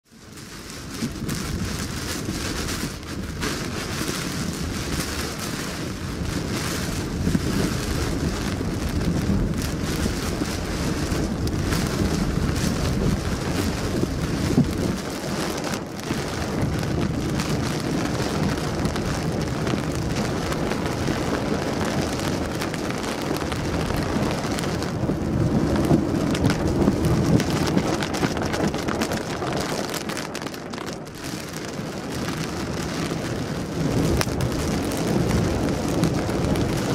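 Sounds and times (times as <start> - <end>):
heavy rain drumming on car: 0.0 - 36.9.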